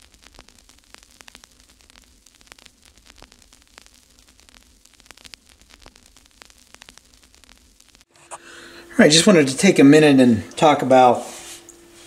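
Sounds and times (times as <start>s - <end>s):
low steady hum: 0.0s - 12.0s
static crackles and clicks: 0.0s - 12.0s.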